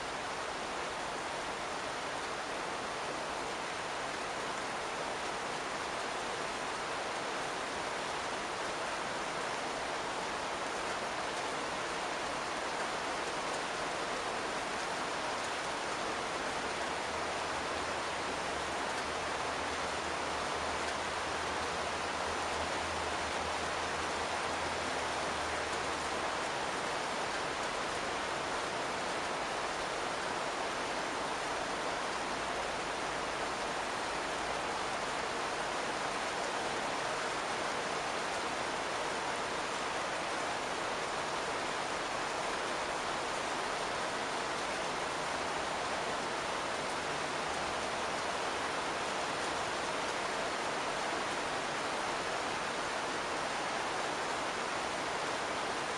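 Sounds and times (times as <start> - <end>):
rain on a roof: 0.0 - 55.9.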